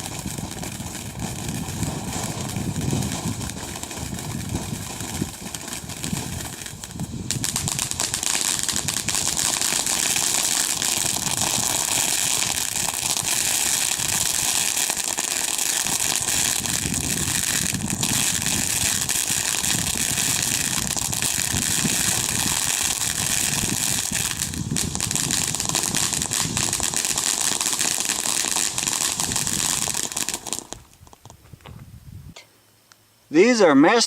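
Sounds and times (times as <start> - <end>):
firework hissing and crackling: 0.0 - 31.4.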